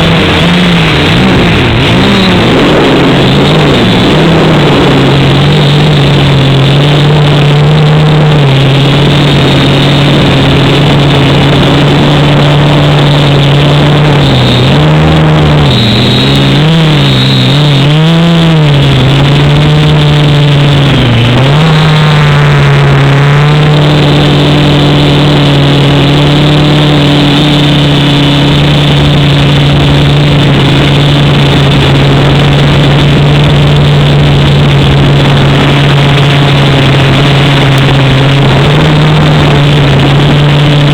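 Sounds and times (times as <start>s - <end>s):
quadcopter propellers droning: 0.0s - 40.9s.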